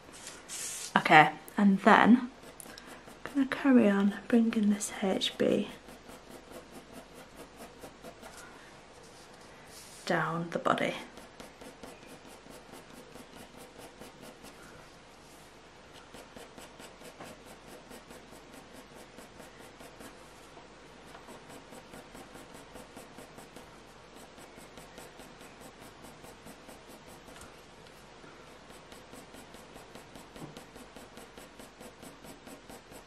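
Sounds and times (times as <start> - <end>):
pencil scratching on paper: 2.2 - 14.6, 15.9 - 27.6, 28.5 - 33.0.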